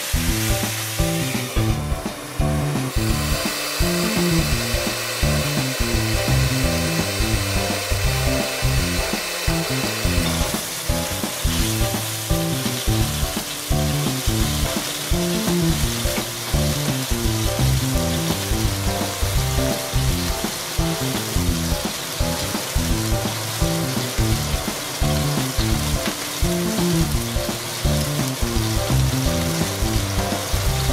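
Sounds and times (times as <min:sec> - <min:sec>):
background music with low notes: 0:00.0 - 0:30.9
dumplings sizzling in frying pan: 0:00.0 - 0:30.9.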